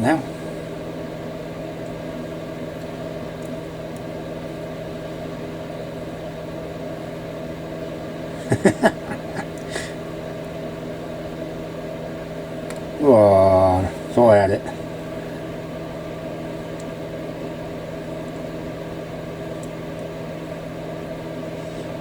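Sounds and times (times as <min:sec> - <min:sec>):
appliance electrical hum: 0:00.0 - 0:22.0.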